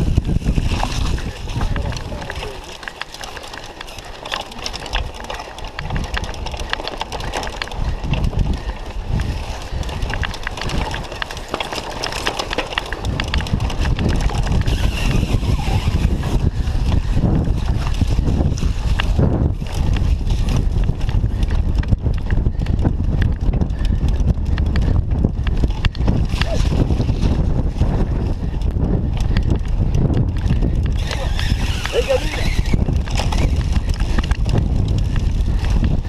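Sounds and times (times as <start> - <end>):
bike rattling and knocking: 0.0 - 36.0
wind buffeting microphone: 0.0 - 36.0.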